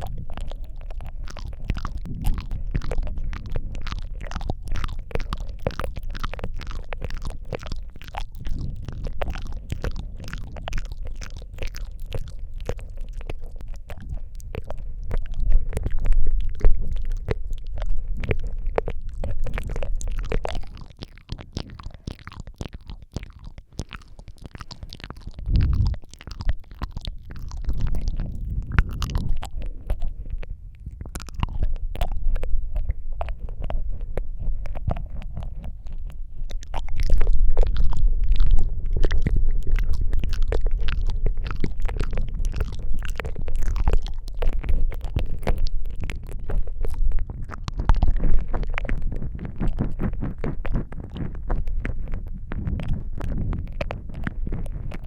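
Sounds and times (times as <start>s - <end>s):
low rumble: 0.0s - 22.4s, 24.8s - 55.0s
wet mouth clicks and smacks: 0.0s - 55.0s.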